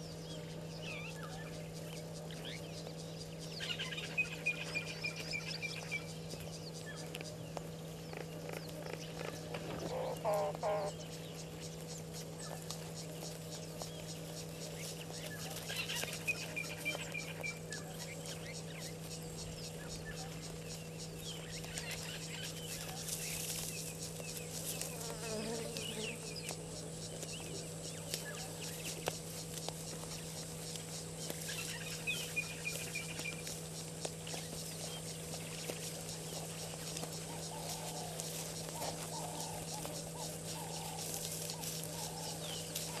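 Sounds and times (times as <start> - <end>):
bird calls: 0.0 - 43.0
constant low hum: 0.0 - 43.0
insects buzzing and ticking: 0.0 - 43.0.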